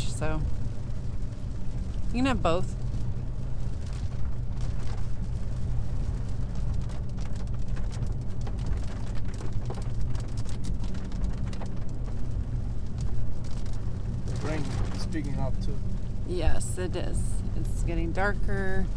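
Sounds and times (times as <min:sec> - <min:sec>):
car cabin drone: 0:00.0 - 0:18.9
raindrops ticking on car roof: 0:00.0 - 0:18.9.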